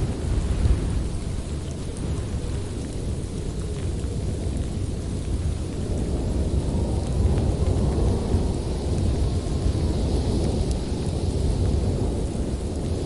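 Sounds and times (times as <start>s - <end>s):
rumble of thunder: 0.0s - 13.0s
steady rain: 0.0s - 13.0s.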